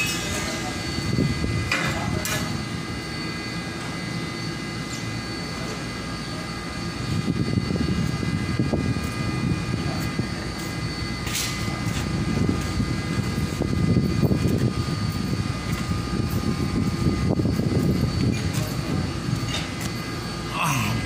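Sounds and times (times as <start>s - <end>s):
machine drone: 0.0s - 21.0s
thin high whine: 0.0s - 21.0s.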